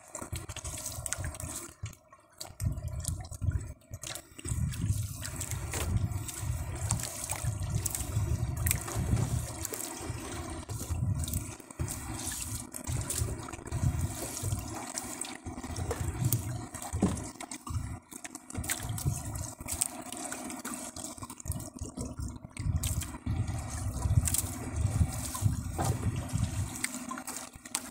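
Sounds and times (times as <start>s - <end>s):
wet net hauled over boat side: 0.0s - 22.0s, 22.8s - 27.9s
water sloshing and splashing: 0.0s - 27.9s.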